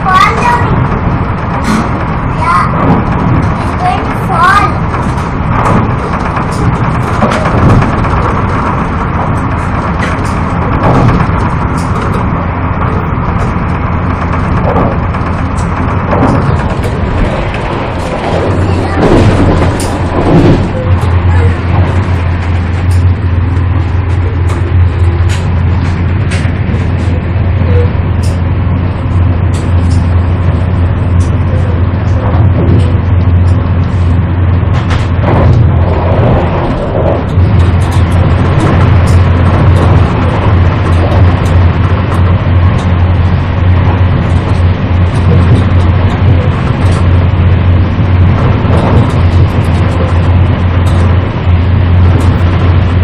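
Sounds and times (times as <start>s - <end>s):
train rumble from inside: 0.0s - 53.0s.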